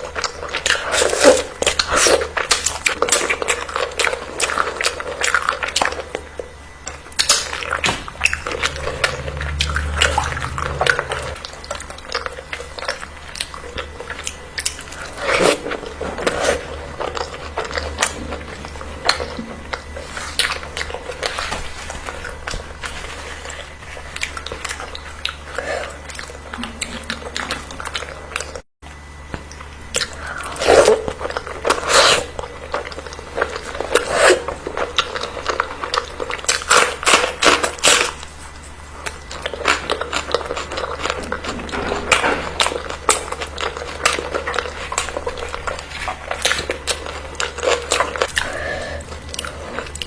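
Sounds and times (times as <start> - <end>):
person chewing and crunching: 0.0 - 28.7, 29.3 - 50.0
steady low hum: 0.0 - 50.0.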